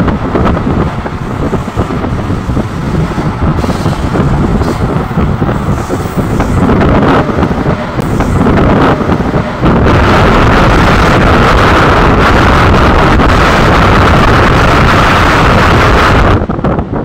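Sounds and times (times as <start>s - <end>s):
train running on rails: 0.0s - 17.0s
wind buffeting microphone: 0.0s - 17.0s.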